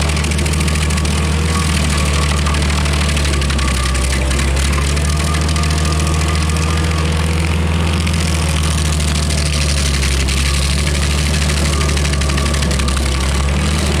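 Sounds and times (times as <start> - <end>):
stump grinder engine running: 0.0 - 14.0.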